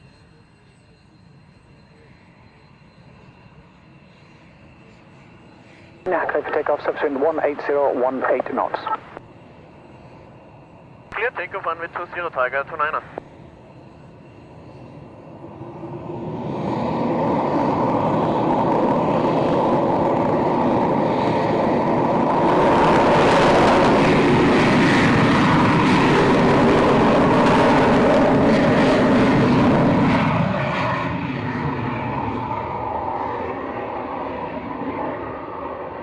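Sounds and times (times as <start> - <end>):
aircraft engines on takeoff: 0.0 - 36.0.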